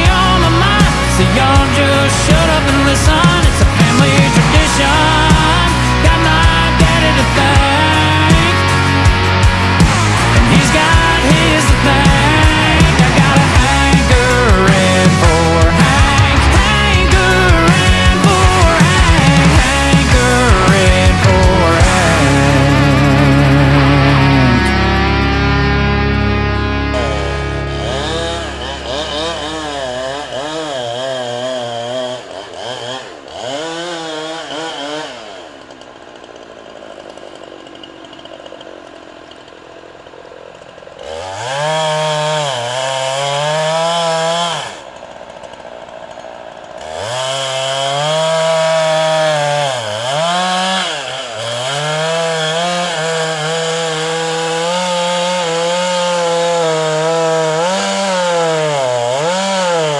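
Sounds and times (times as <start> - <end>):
chainsaw running and cutting: 0.0 - 59.9.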